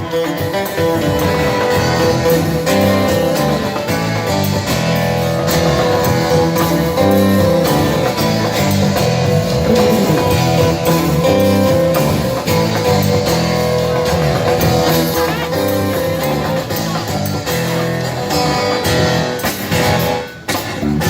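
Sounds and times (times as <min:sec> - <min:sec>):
loud guitar-led music: 0:00.0 - 0:21.0.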